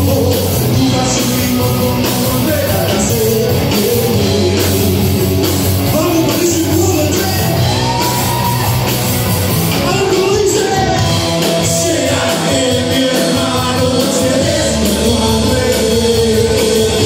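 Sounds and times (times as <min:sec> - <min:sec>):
man singing: 0:00.0 - 0:08.0, 0:09.8 - 0:17.0
live rock band playing: 0:00.0 - 0:17.0.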